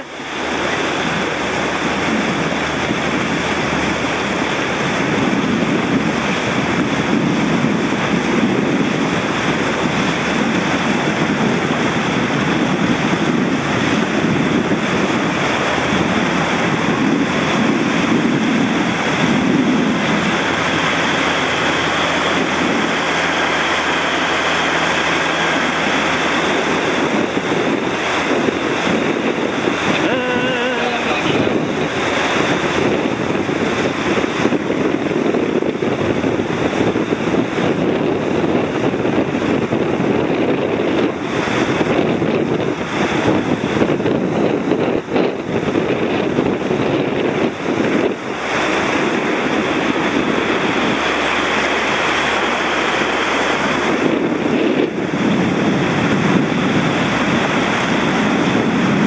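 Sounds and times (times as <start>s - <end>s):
rushing water and spray: 0.0s - 59.0s
wind buffeting microphone: 0.0s - 59.0s.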